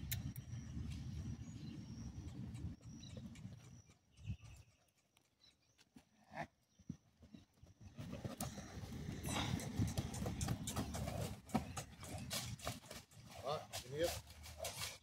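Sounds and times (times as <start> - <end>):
hooves thudding on turf: 2.2 - 15.0.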